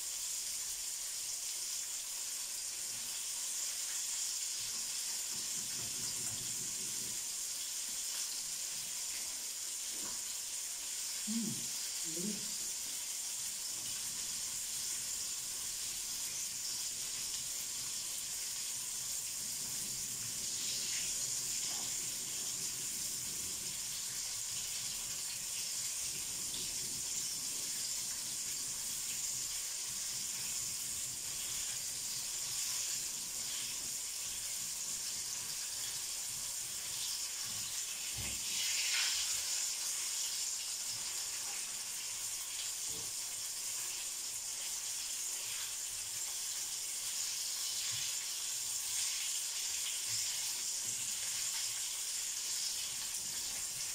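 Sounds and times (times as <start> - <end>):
chicken sizzling in hot oil: 0.0 - 53.9.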